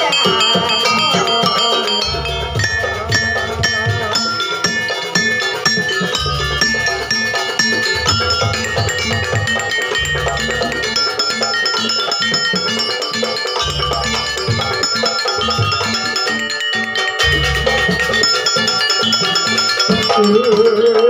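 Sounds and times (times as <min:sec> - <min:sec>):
steady drum beat: 0:00.0 - 0:16.5, 0:17.2 - 0:20.4
ringing metal-keyed notes: 0:00.0 - 0:21.0.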